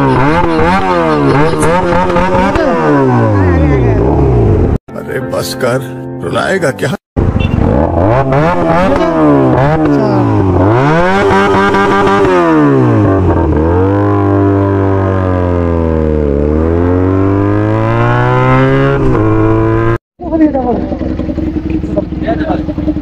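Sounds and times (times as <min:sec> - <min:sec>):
motorcycle engine revving: 0:00.0 - 0:04.8, 0:07.2 - 0:23.0.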